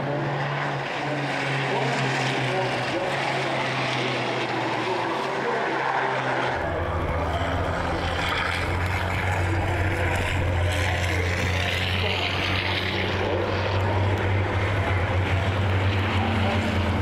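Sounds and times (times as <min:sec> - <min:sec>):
diesel truck engines droning: 0:00.0 - 0:17.0.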